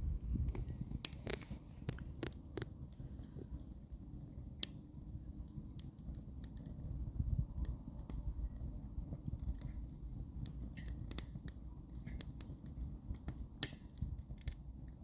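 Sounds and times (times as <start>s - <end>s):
fire rumbling: 0.0s - 15.0s
firewood crackling and popping: 0.0s - 15.0s.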